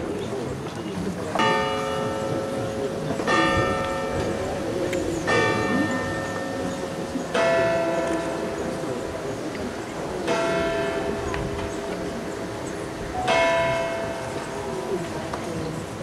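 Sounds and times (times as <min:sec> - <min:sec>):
church bells tolling: 0:01.3 - 0:16.0.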